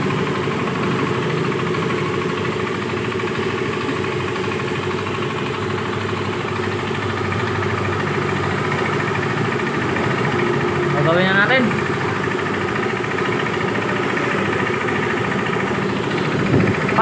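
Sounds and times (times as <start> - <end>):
scooter engine knocking: 0.0 - 17.0.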